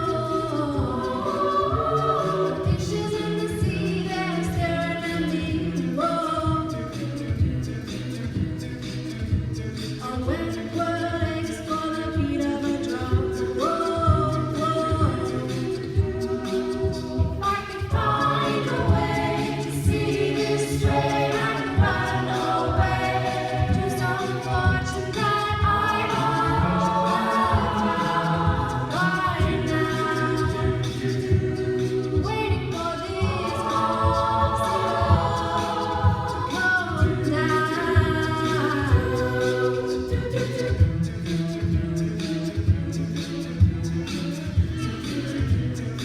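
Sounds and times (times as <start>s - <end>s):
a cappella group singing: 0.0s - 46.0s.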